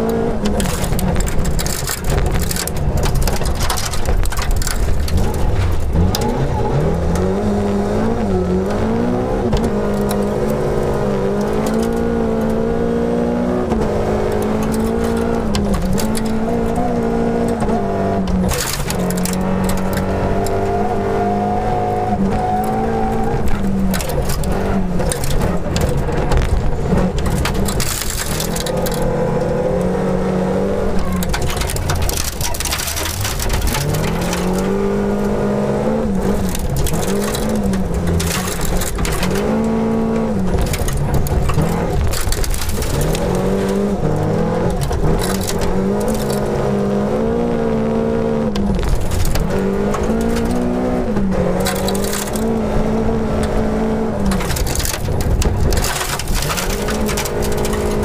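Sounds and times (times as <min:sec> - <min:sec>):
rally car engine accelerating: 0:00.0 - 0:58.0.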